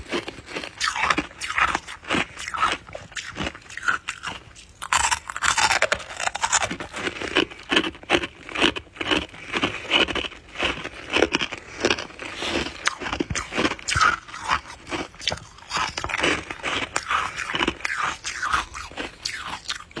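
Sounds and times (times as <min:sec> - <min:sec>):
chewing crunchy ice: 0:00.0 - 0:20.0.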